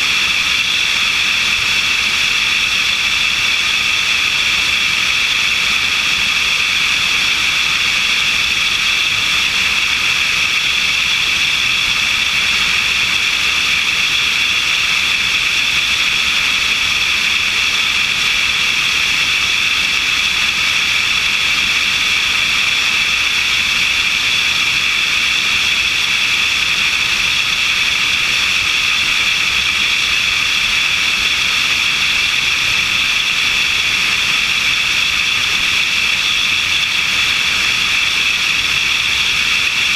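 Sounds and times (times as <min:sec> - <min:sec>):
light aircraft engine and airflow: 0:00.0 - 0:39.9.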